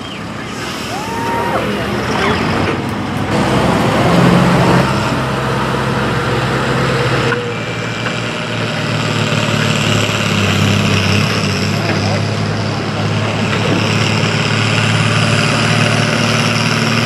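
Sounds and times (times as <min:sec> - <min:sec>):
tractor engine under load: 0:00.0 - 0:17.0.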